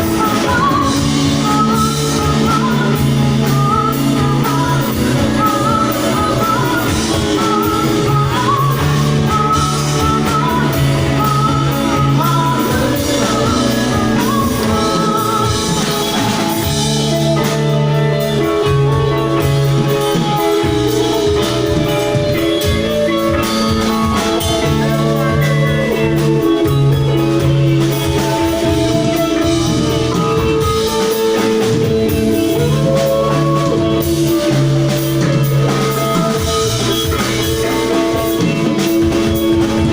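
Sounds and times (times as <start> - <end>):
drum kit: 0.0 - 39.9
electric guitars: 0.0 - 39.9
person singing: 0.0 - 39.9.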